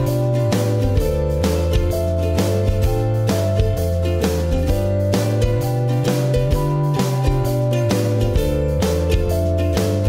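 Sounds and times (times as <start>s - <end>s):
upbeat acoustic guitar music: 0.0s - 10.0s.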